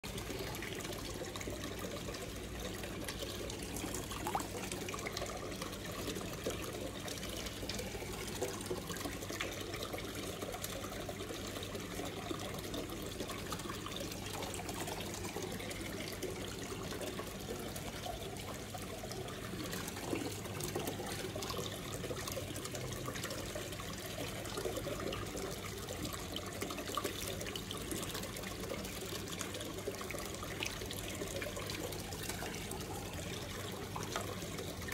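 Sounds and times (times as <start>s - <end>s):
aquarium water trickling: 0.0s - 34.9s.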